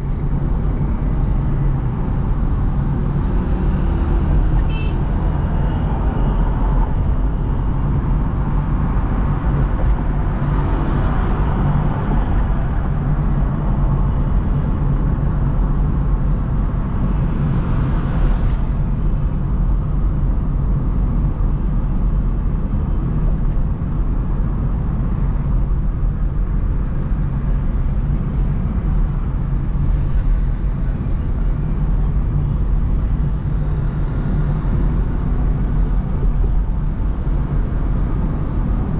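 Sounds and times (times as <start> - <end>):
vehicles passing: 0.0 - 21.8, 22.6 - 38.9
car driving low rumble: 0.0 - 38.9.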